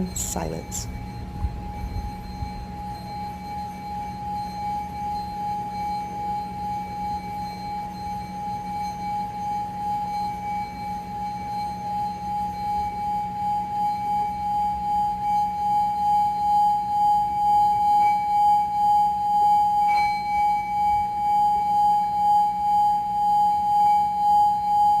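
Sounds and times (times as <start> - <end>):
singing bowl ringing: 0.0 - 25.0
singing bowl struck: 0.0 - 25.0.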